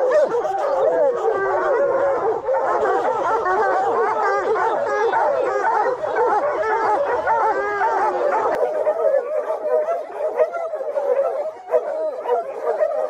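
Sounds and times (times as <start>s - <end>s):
hounds barking and bawling: 0.0s - 13.0s.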